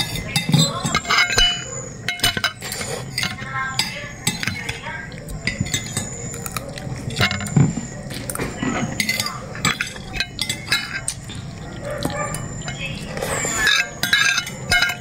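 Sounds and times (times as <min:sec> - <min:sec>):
cutlery clinking on a plate: 0:00.0 - 0:15.0.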